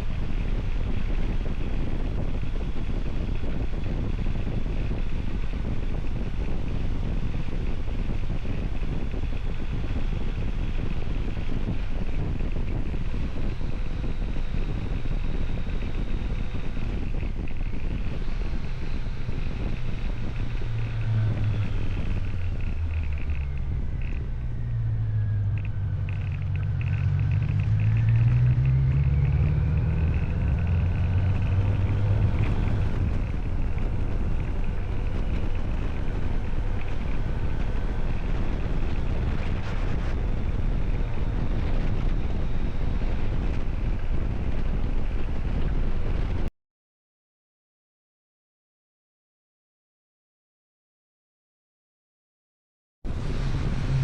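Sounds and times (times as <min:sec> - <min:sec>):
motor engine humming: 0:00.0 - 0:46.4
wind rumble on microphone: 0:00.0 - 0:46.5, 0:53.1 - 0:54.0.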